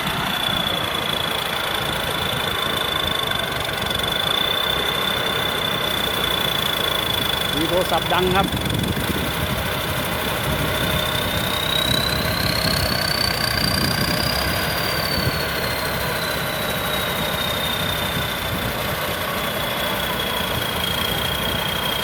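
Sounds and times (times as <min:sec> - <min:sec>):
diesel engine running: 0:00.0 - 0:22.0
high whine: 0:00.0 - 0:22.0.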